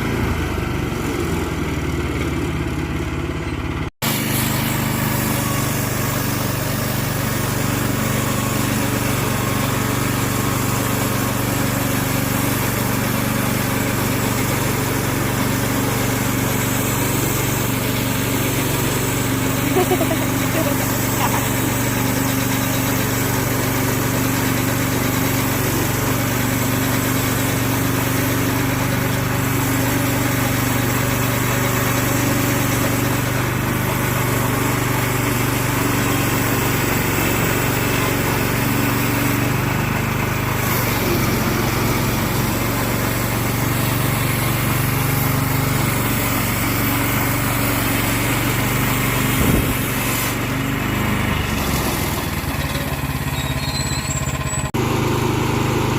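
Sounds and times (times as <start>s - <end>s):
sawmill gasoline engine running: 0.0s - 55.9s.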